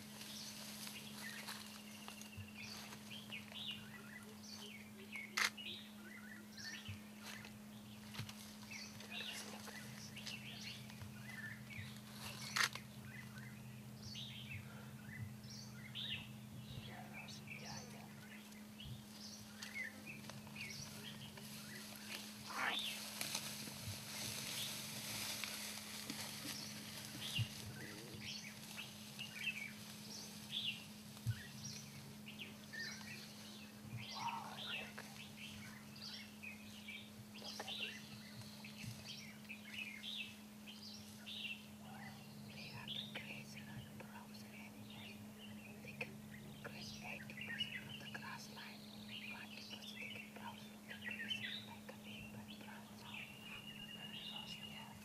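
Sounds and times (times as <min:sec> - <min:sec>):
steady low hum: 0:00.0 - 0:55.0
wild birds chirping: 0:00.0 - 0:55.0.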